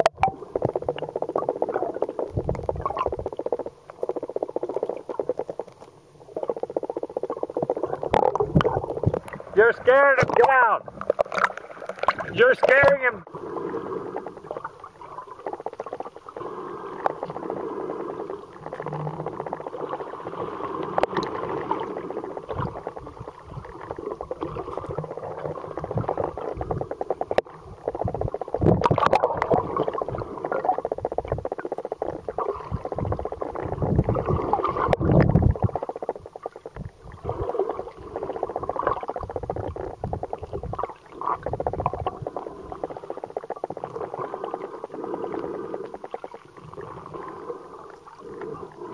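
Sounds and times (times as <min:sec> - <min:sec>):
muffled underwater water rush: 0:00.0 - 0:48.9.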